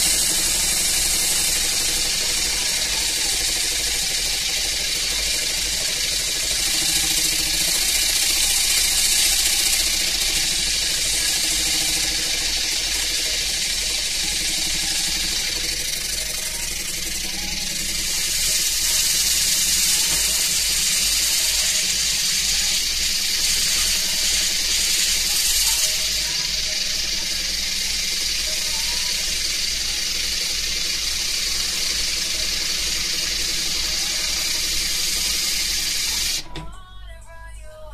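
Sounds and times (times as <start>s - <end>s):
compressed air hissing: 0.0s - 36.5s
model engine beating fast: 0.0s - 36.6s.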